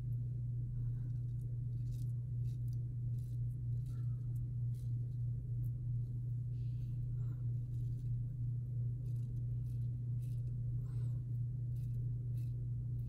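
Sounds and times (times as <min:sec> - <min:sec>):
steady low hum: 0:00.0 - 0:13.0
razor scraping stubble: 0:01.0 - 0:13.0.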